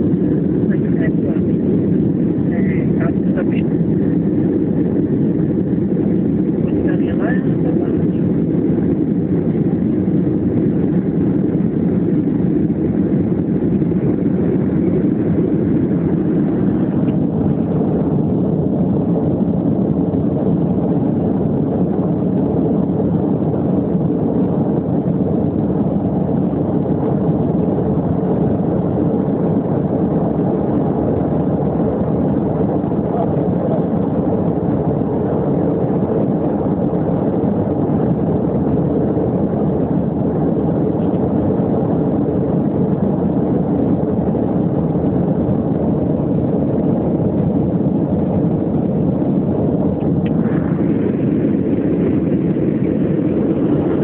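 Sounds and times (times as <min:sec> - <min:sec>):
airplane cabin engine noise: 0:00.0 - 0:54.0.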